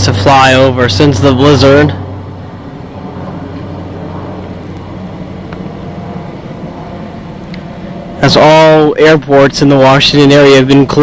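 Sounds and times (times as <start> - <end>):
airplane rumble overhead: 0.0 - 11.0.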